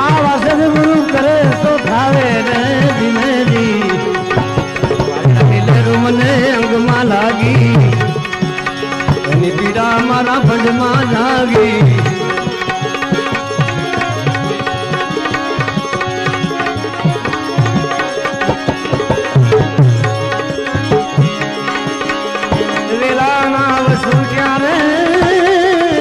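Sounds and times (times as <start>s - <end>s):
melody instrument holding notes: 0.0s - 25.8s
tabla playing: 0.0s - 26.0s.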